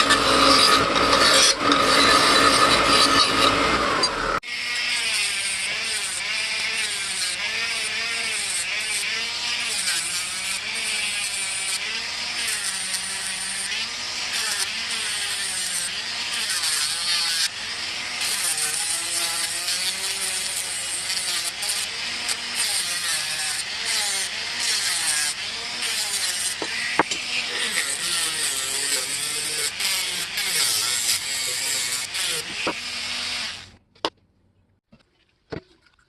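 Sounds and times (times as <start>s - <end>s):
electric power tool motor running: 0.0s - 33.8s.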